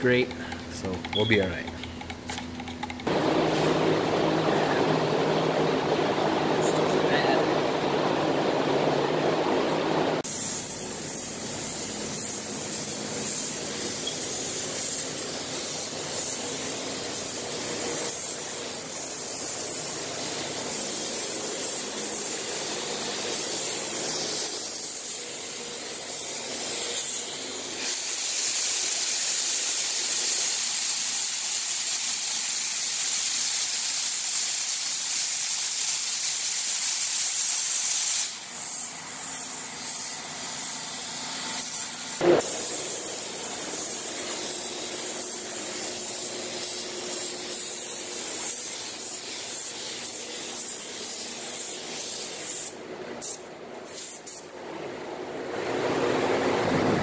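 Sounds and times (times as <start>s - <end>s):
paint spray gun hissing: 1.1s - 4.4s, 10.2s - 54.5s.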